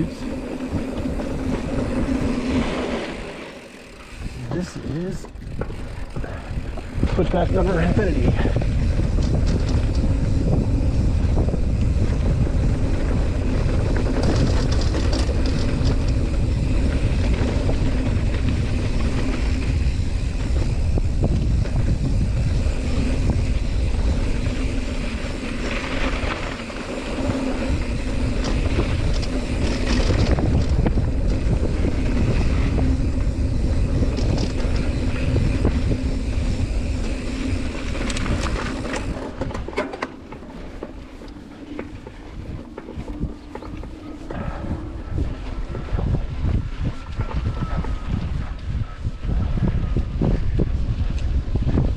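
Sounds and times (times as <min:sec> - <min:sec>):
bike rattling over bumps: 0:00.0 - 0:51.9
bike tyres rolling on dirt: 0:00.0 - 0:51.9
wind buffeting microphone: 0:00.0 - 0:51.9.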